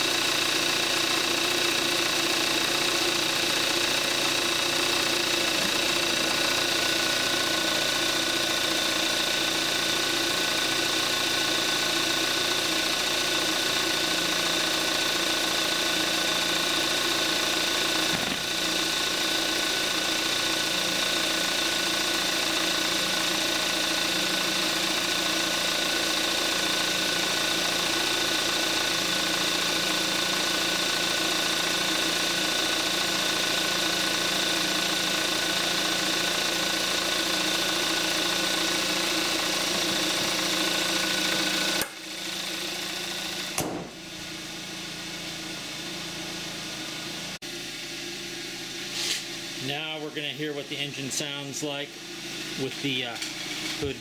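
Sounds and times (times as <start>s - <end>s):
car engine idling: 0.0s - 48.8s.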